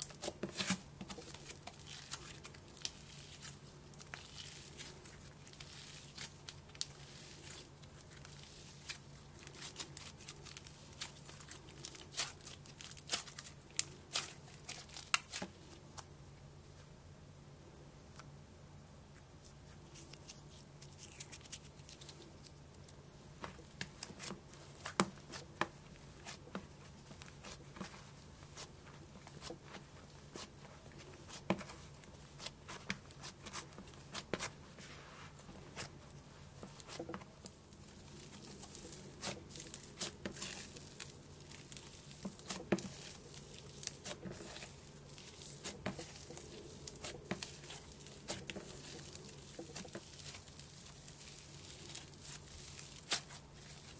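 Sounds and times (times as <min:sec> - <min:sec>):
slime crunching and crackling: 0:00.0 - 0:15.8, 0:19.9 - 0:34.8, 0:35.6 - 0:53.9.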